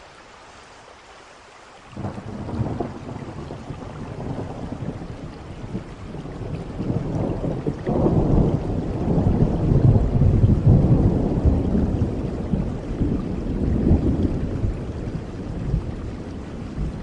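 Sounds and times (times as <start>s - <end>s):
steady rain: 0.0s - 17.0s
rumble of thunder: 2.0s - 17.0s.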